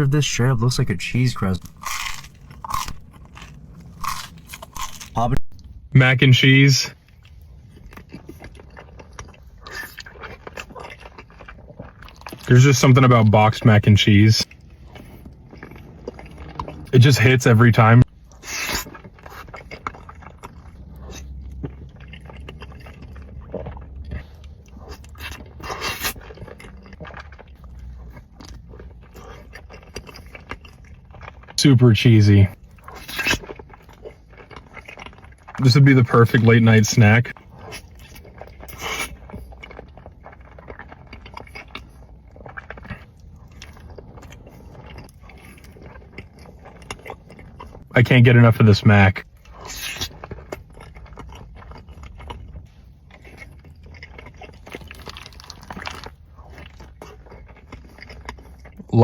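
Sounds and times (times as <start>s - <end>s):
wet chewing: 0.4s - 5.7s, 6.9s - 59.0s.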